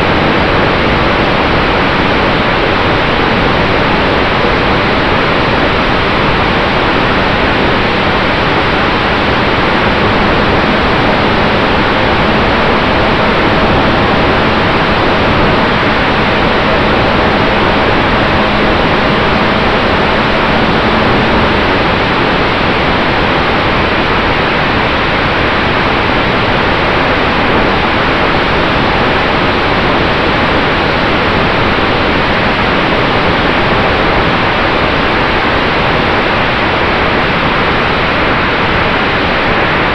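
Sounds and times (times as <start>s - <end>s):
faint steady hum: 0.0s - 39.9s
wind rushing over microphone: 0.0s - 39.9s.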